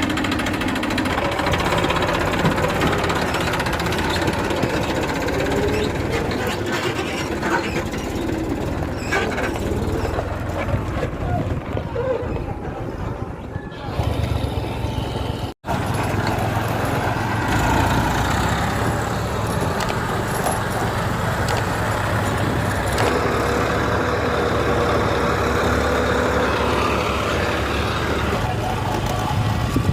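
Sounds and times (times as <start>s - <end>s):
heavy diesel machinery running: 0.0s - 29.9s.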